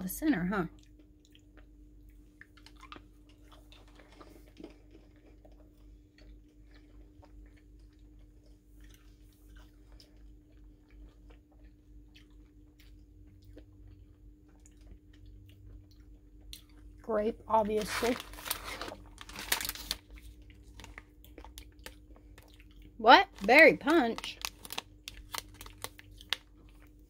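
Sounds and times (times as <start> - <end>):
chewing candy crunches: 0.7 - 27.0.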